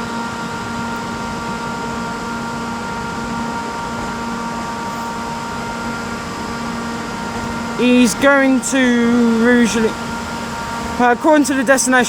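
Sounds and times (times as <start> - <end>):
electrical hum: 0.0 - 12.0
whining electric train tones: 0.0 - 12.0.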